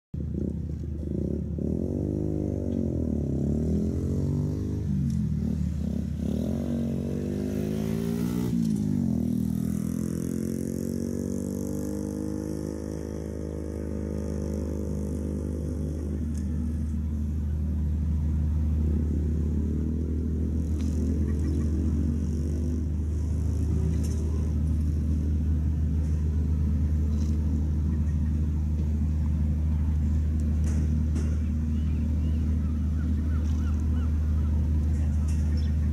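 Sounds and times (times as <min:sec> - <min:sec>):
large engine humming: 0:00.2 - 0:35.9.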